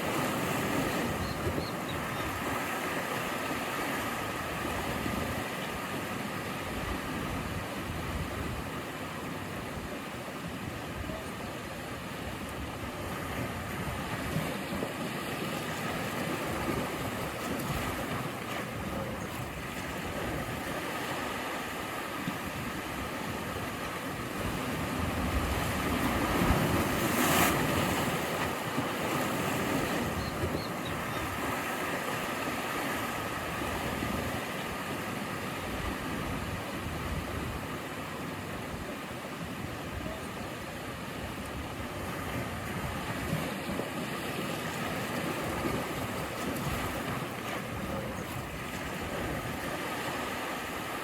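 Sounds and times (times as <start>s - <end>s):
ocean waves breaking: 0.0s - 51.0s.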